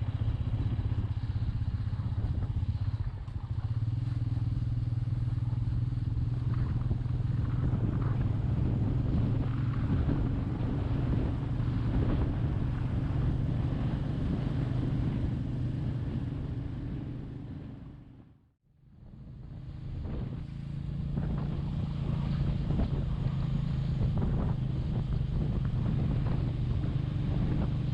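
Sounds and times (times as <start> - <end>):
wind on microphone: 0.0 - 18.1, 19.0 - 27.9
motorcycle engine running: 0.0 - 27.9.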